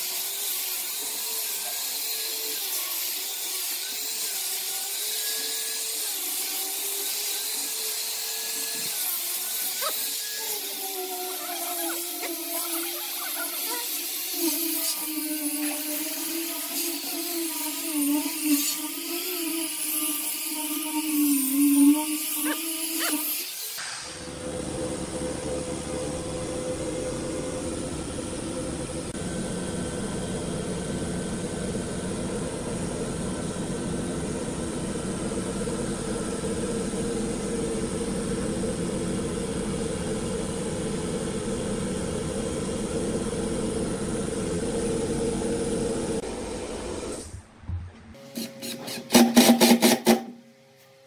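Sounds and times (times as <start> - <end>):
motor running with drone: 0.0 - 47.2.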